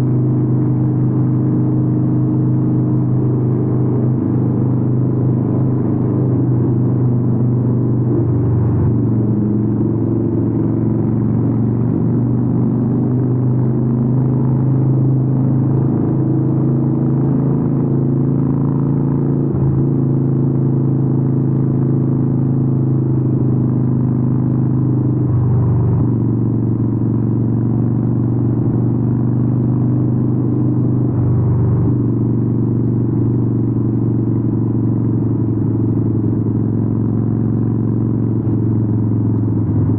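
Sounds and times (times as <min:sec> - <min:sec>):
motorcycle engine low rumble: 0:00.0 - 0:39.9.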